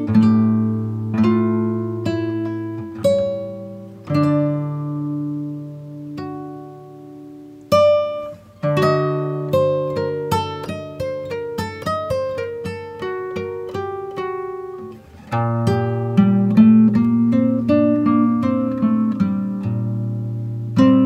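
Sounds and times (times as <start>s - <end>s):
acoustic guitar plucked notes: 0.0s - 21.0s.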